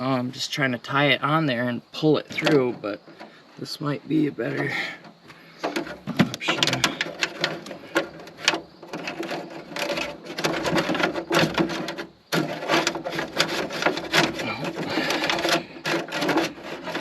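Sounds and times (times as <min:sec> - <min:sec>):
plastic hose clicking and scraping: 0:01.2 - 0:17.0.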